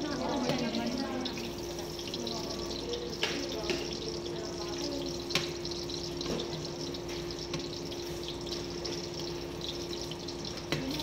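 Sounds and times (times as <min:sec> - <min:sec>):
pan sizzling with crackles: 0:00.0 - 0:11.0.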